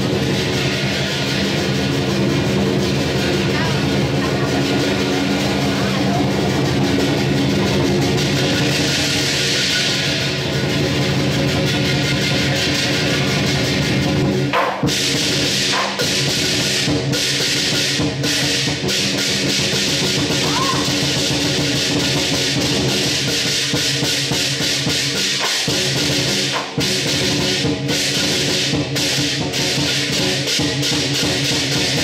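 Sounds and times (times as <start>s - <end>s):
cymbals: 0.0s - 32.0s
drum beating fast: 0.0s - 32.0s.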